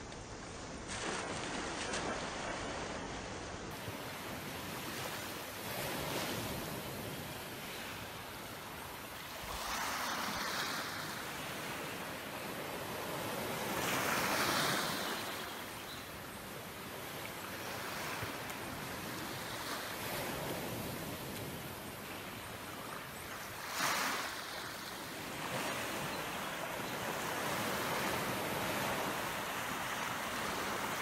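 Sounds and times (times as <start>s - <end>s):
small waves washing on sand: 0.0s - 31.0s.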